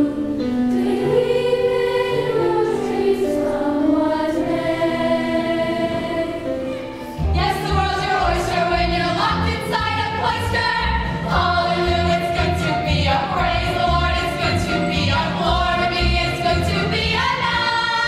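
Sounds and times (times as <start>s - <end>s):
choir singing in unison: 0.0s - 18.0s.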